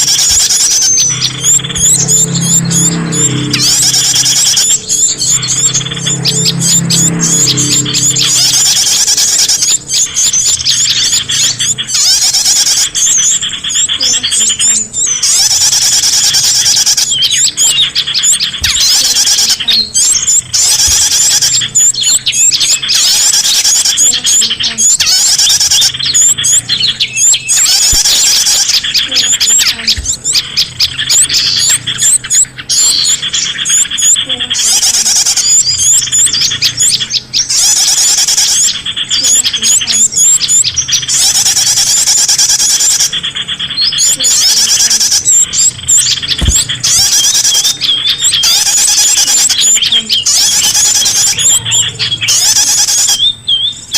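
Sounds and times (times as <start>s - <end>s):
small birds chirping and twittering: 0.0s - 53.9s.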